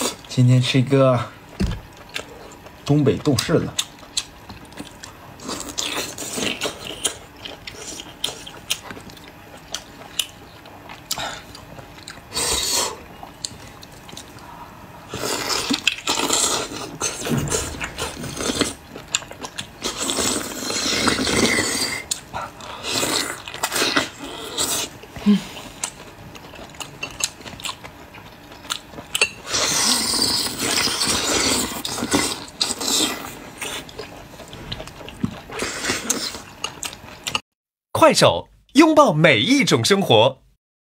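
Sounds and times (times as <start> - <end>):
wet chewing and slurping: 1.8 - 37.4.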